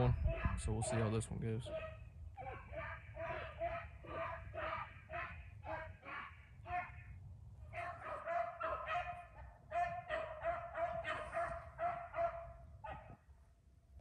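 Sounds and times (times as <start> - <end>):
dogs baying: 0.0 - 1.1, 1.7 - 7.0, 7.7 - 13.2.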